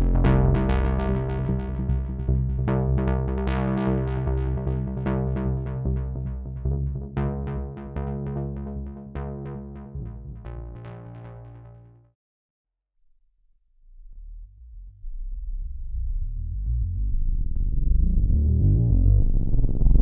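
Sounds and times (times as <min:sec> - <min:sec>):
sustained low synth notes: 0:00.0 - 0:12.0, 0:14.4 - 0:20.0.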